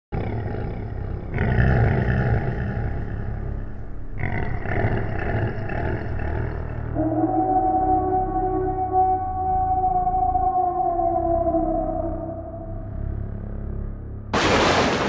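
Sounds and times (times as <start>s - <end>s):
monster growling: 0.1s - 13.0s.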